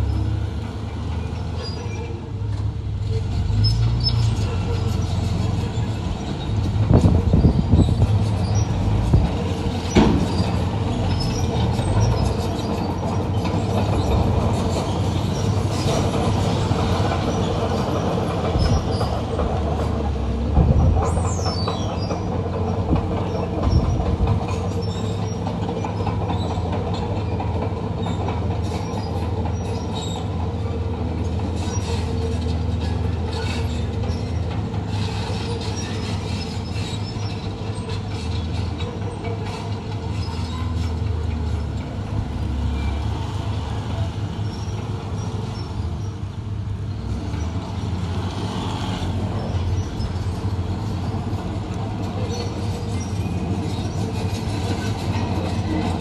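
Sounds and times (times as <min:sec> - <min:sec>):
bulldozer diesel engine running: 0:00.0 - 0:56.0
steel tracks clanking and squealing: 0:00.0 - 0:56.0.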